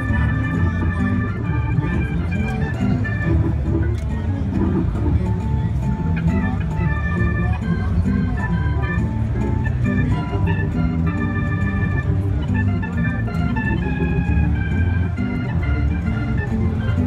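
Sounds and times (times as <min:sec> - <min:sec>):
organ playing funky jam: 0:00.0 - 0:17.0.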